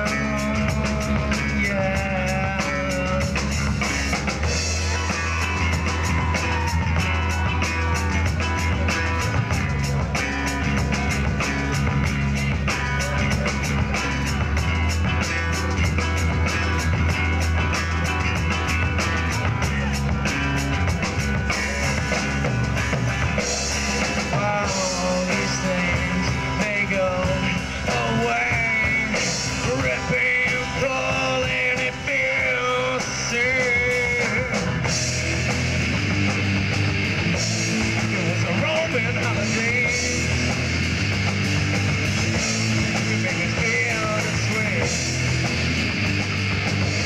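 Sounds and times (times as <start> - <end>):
live rock band playing: 0.0 - 47.0
wavering lead guitar melody: 0.0 - 47.0.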